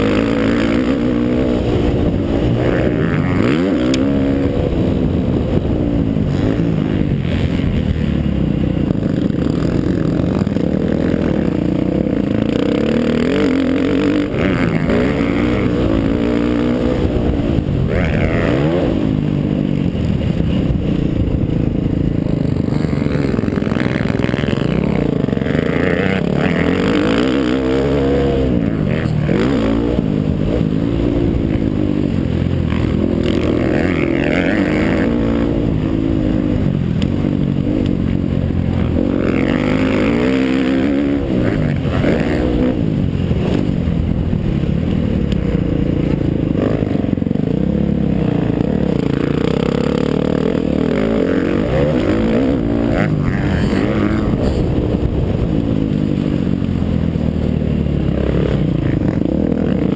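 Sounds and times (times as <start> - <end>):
dirt bike engine revving: 0.0 - 59.9
wind rushing over microphone: 0.0 - 59.9.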